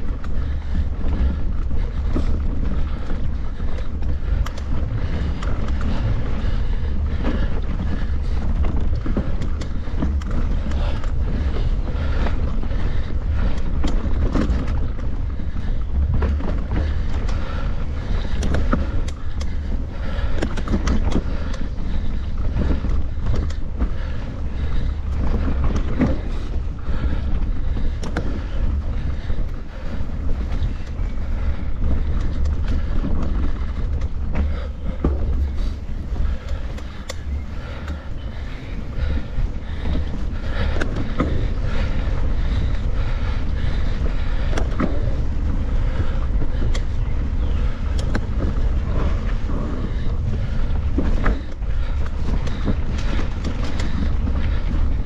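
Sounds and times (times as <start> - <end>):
bike rattles and knocks: 0.0 - 55.0
wind buffeting microphone: 0.0 - 55.0.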